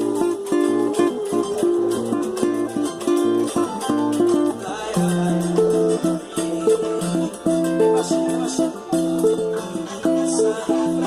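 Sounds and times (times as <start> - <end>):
plucked string instrument: 0.0 - 11.0
steady beat: 0.0 - 11.0.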